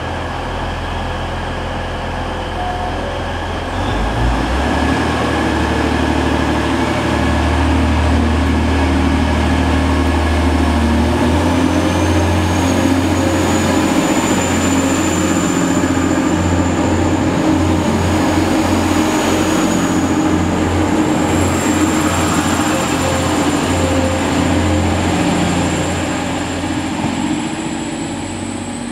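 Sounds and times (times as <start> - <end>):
train engine drone: 0.0 - 28.9.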